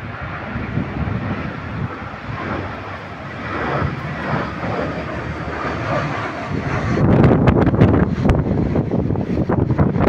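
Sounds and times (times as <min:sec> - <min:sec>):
jet airliner engines passing: 0:00.0 - 0:10.0.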